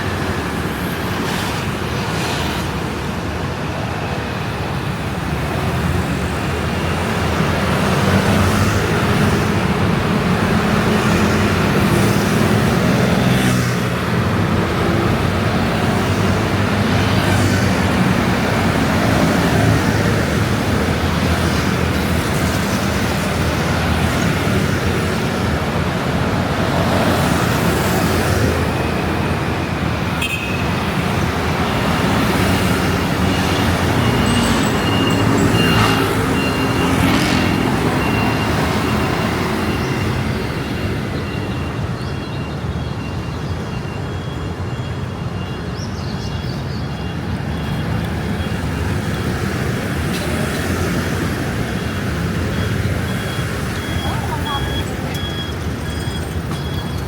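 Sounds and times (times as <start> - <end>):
motor scooters passing: 4.3 - 42.0, 42.6 - 57.0.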